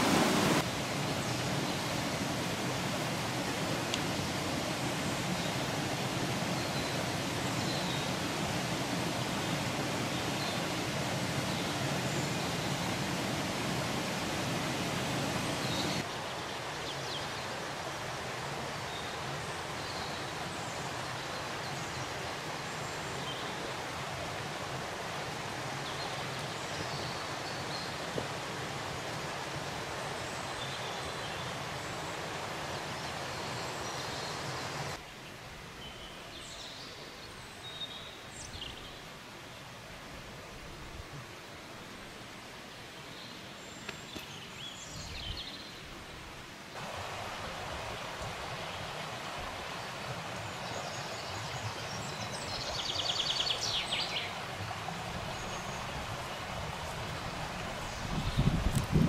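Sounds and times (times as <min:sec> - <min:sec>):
rushing hiss ambience: 0:00.0 - 0:59.0.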